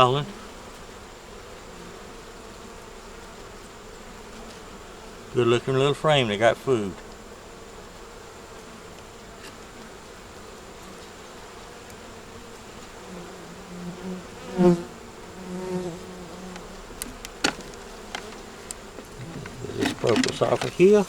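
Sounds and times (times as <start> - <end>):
bees buzzing: 0.0 - 21.0
bees flying past microphone: 0.0 - 21.0.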